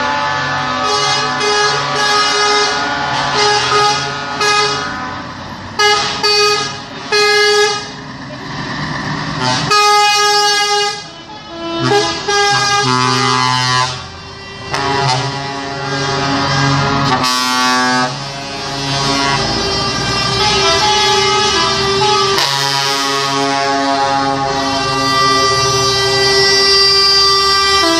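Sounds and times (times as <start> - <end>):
truck air horns: 0.0 - 8.0, 9.3 - 27.9
truck engines running: 0.0 - 27.9.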